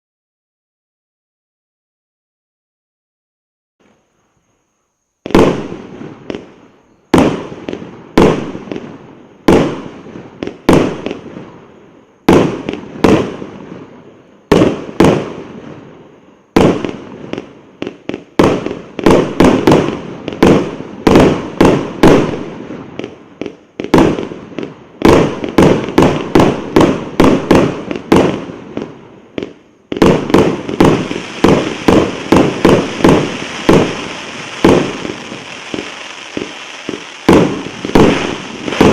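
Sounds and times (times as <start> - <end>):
fireworks bangs and crackle: 5.2 - 38.9.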